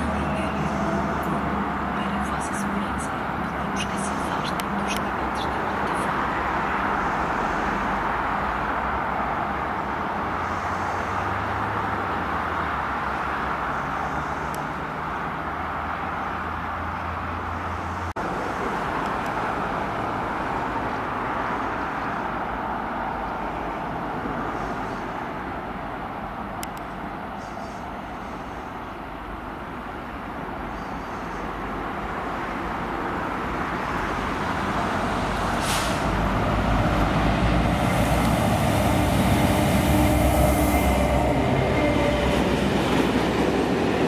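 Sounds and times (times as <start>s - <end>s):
electric train rumble: 0.0s - 14.4s, 15.6s - 44.0s
freight train approaching: 0.0s - 44.0s.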